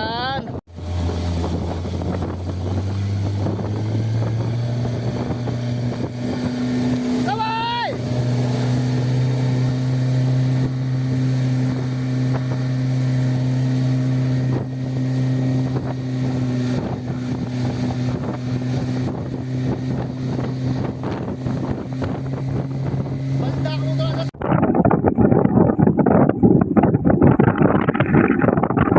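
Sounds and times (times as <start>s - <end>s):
motorboat engine droning: 0.0s - 28.4s
wind buffeting microphone: 0.0s - 28.9s.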